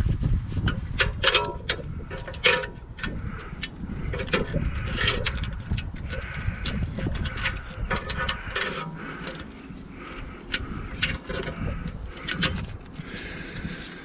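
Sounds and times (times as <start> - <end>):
metal tool clicking and scraping: 1.0 - 14.0.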